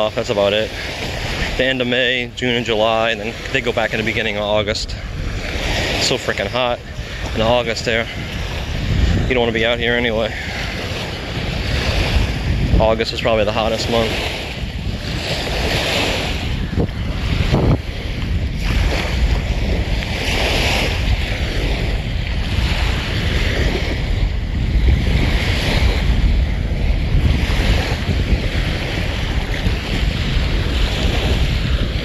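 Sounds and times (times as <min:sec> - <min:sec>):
small waves breaking on shore: 0:00.0 - 0:32.0
wind rumbling on microphone: 0:00.0 - 0:32.0.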